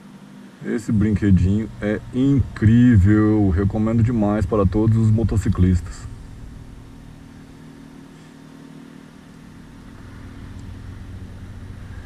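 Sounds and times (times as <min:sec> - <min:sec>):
vehicle engine humming: 0:00.6 - 0:12.0.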